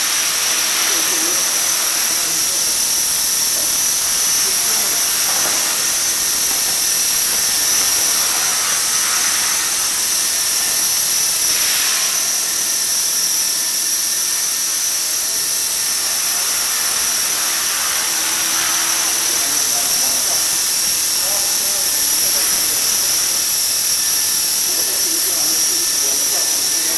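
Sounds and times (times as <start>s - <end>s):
rc helicopter motor whine: 0.0s - 26.9s.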